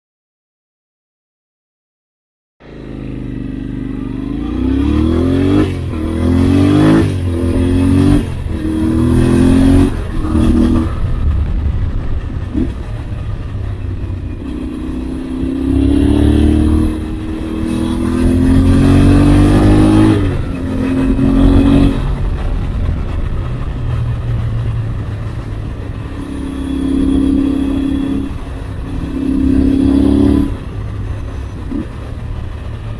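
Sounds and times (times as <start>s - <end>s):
motorcycle engine accelerating: 2.6s - 32.9s.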